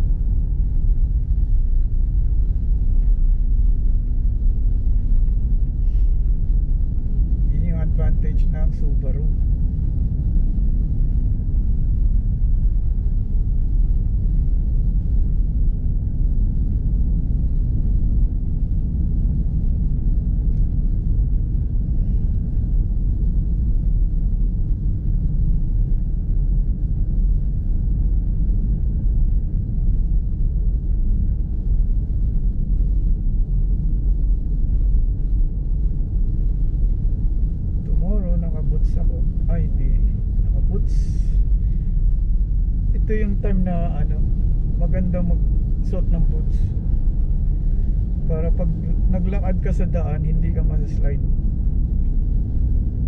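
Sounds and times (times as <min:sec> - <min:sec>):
car engine and tyres rumbling: 0:00.0 - 0:53.0.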